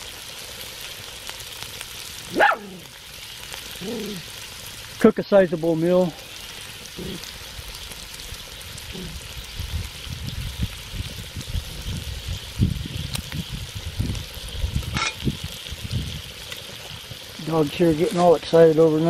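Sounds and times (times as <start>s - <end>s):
bacon sizzling: 0.0s - 19.0s.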